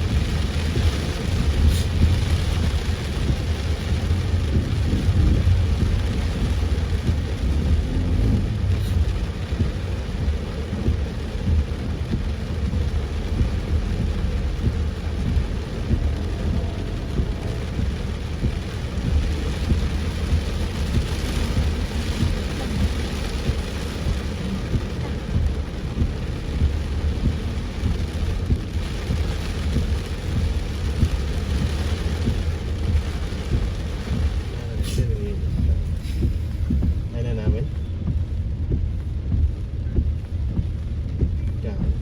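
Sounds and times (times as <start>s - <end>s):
deep low rumble: 0.0s - 42.0s
heavy rain on a car: 0.0s - 42.0s.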